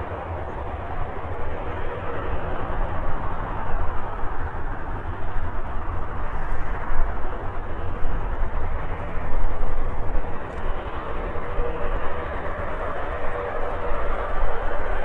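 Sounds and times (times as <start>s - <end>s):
jet airliner engine rumble: 0.0s - 15.0s.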